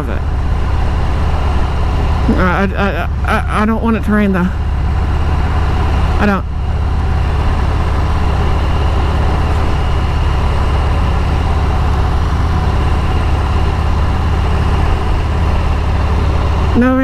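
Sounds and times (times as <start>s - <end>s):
truck engine rumble: 0.0s - 17.0s.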